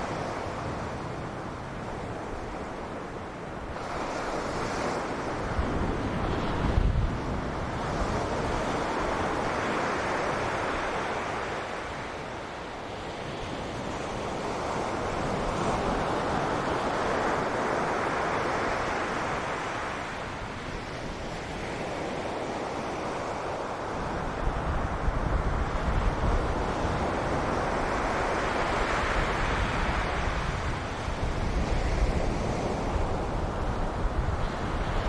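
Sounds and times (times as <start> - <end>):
ocean surf on a beach: 0.0 - 35.0
wind buffeting the microphone: 0.0 - 35.0.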